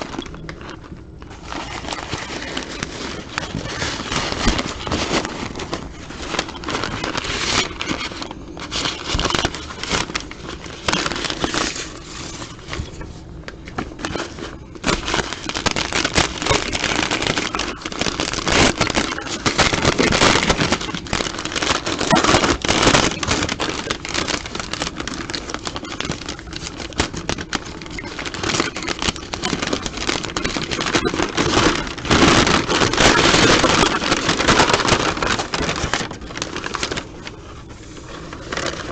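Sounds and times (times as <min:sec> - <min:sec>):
plastic packaging crinkling: 0:00.0 - 0:38.9.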